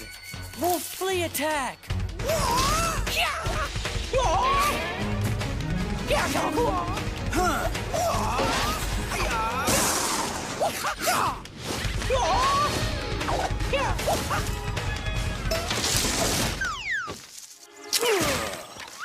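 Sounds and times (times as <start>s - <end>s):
action music: 0.0s - 16.6s.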